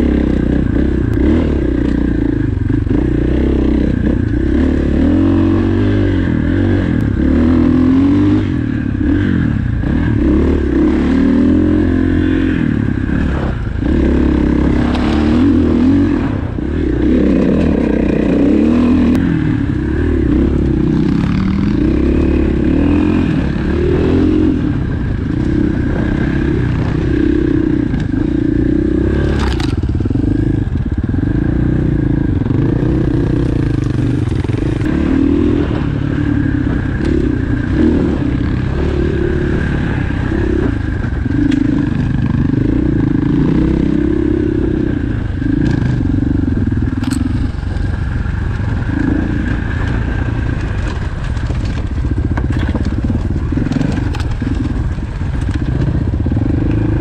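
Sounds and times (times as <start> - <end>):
dirt bike engine: 0.0 - 57.0.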